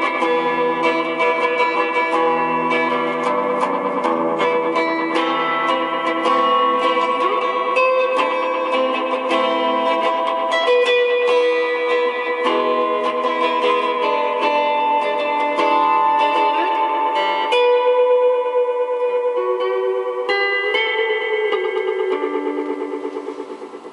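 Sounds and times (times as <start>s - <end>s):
plucked guitar with delay: 0.0s - 23.9s.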